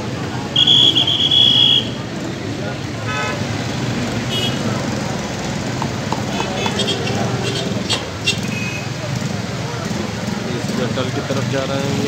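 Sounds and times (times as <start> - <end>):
crowd noise: 0.0 - 12.0
traffic: 0.0 - 12.0.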